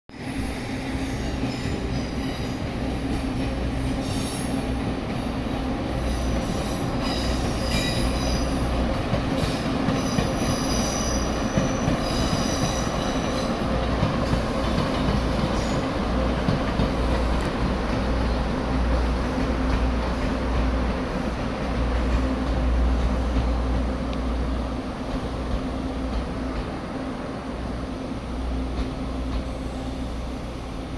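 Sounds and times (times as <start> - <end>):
train rumbling on rails: 0.1 - 30.9.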